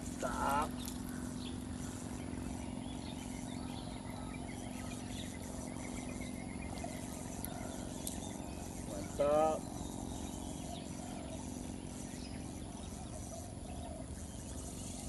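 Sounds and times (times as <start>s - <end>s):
constant low hum: 0.0s - 15.0s
faint bird chirps: 0.0s - 15.0s
low outdoor rumble: 0.0s - 15.0s.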